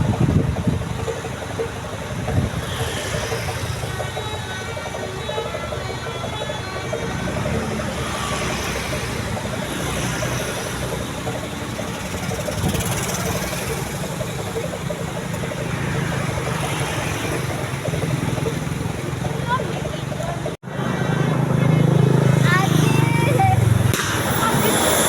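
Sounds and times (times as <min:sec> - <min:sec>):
bus engines idling: 0:00.0 - 0:25.0
road noise: 0:00.0 - 0:25.0.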